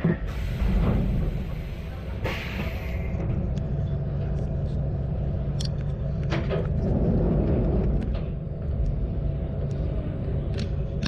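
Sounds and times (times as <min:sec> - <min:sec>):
diesel railcar engine drone: 0:00.0 - 0:11.0.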